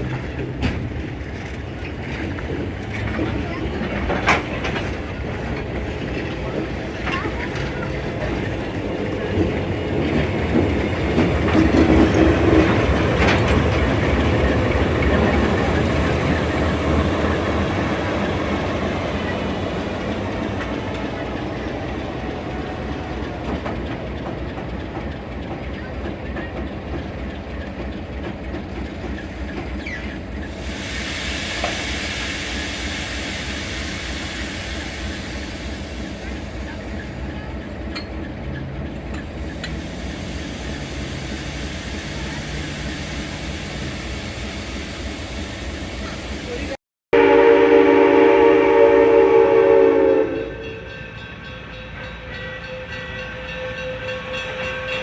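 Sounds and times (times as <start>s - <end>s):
rail and wheel noise: 0.0s - 55.0s
train running past: 0.0s - 55.0s.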